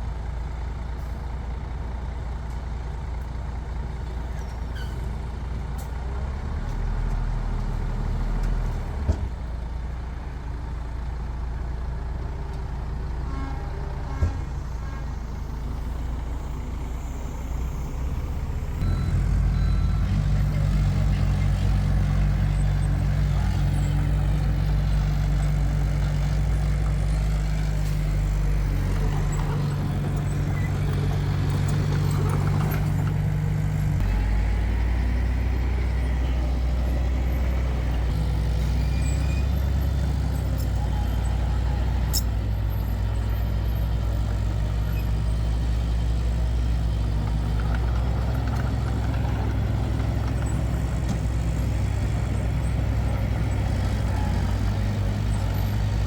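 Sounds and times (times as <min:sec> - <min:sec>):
heavy machinery diesel engine drone: 0:00.0 - 0:56.0.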